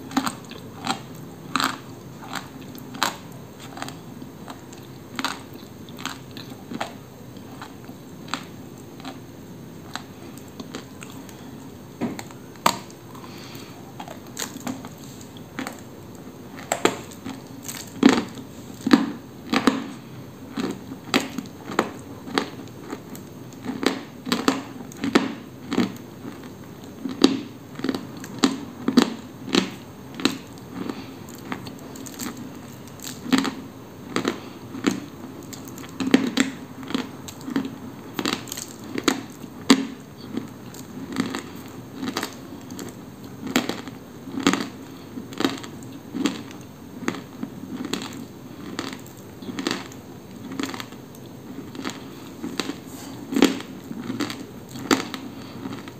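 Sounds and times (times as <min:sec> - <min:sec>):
dry clay crunching when chewed: 0:00.0 - 0:55.9.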